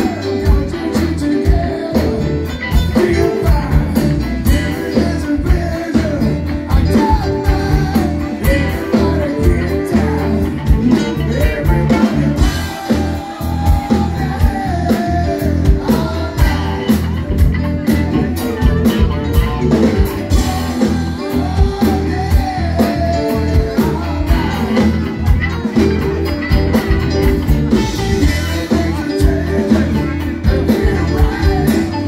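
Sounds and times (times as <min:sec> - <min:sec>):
blues band playing: 0:00.0 - 0:32.0
drum kit beat: 0:00.0 - 0:32.0
electric bass: 0:00.0 - 0:32.0.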